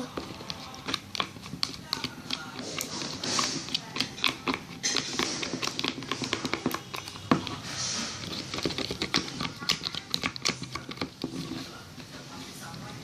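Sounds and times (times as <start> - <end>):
spoon clicking and scraping container: 0.1 - 11.8.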